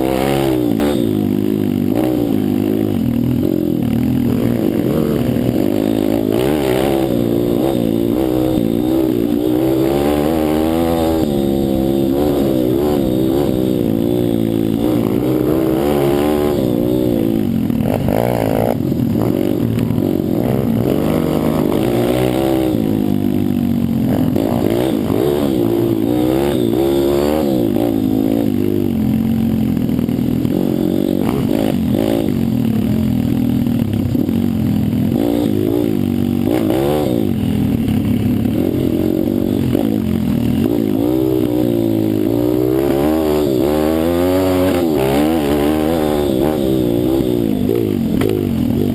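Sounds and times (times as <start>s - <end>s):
pit bike engine revving: 0.0s - 48.9s
clatter: 0.2s - 48.9s.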